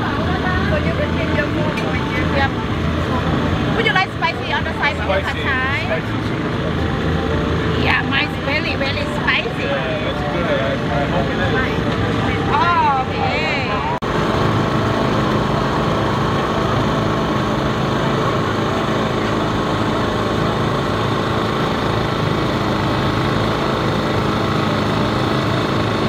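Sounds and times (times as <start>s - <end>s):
small engine humming: 0.0s - 26.0s.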